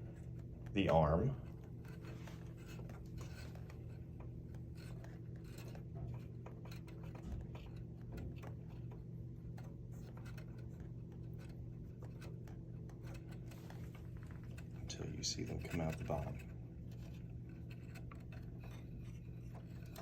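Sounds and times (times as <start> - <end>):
steady low hum: 0.0 - 20.0
thin wires scratching: 0.2 - 20.0.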